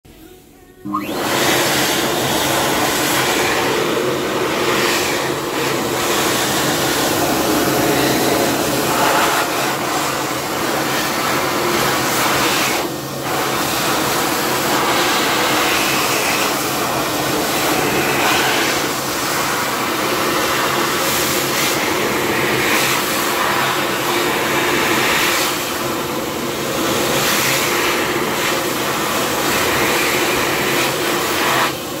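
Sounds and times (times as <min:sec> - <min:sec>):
hand dryer blowing: 0:00.8 - 0:32.0.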